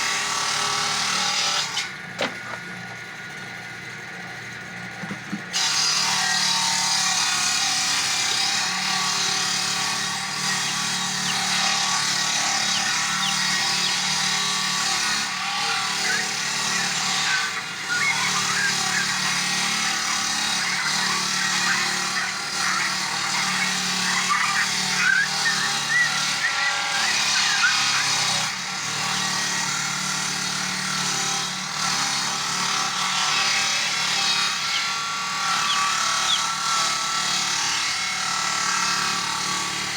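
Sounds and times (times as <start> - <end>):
chainsaw cutting wood: 0.0 - 2.6, 5.5 - 39.9.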